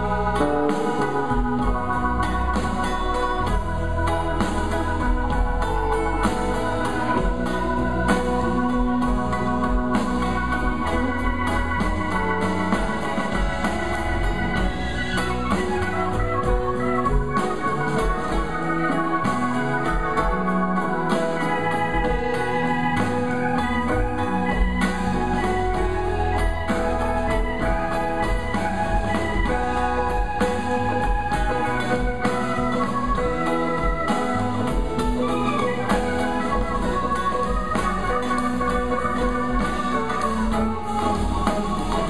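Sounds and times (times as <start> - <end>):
acoustic guitar: 0.0 - 42.0
drum kit: 0.0 - 42.0
electric bass: 0.0 - 42.0
electric guitar: 0.0 - 42.0
held organ-like chords: 0.0 - 42.0.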